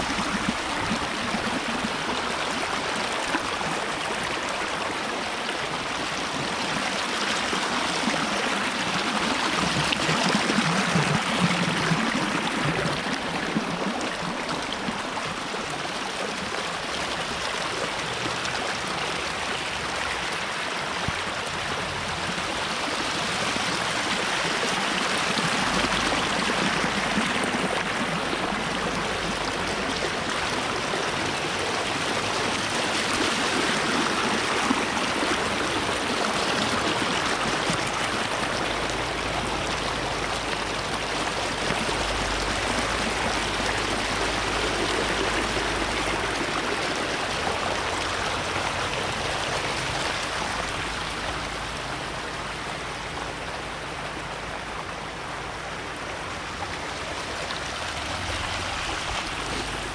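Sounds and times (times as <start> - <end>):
water rushing down ditch: 0.0 - 59.9.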